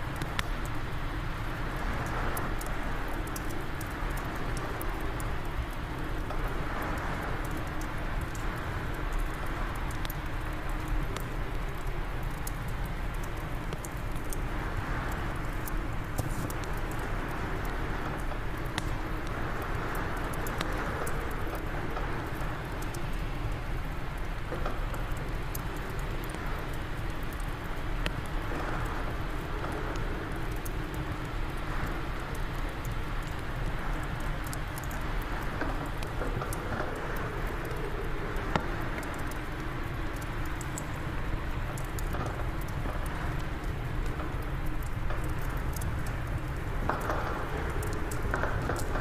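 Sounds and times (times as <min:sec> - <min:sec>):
low wind rumble: 0:00.0 - 0:49.0
wood fire crackling: 0:00.0 - 0:49.0.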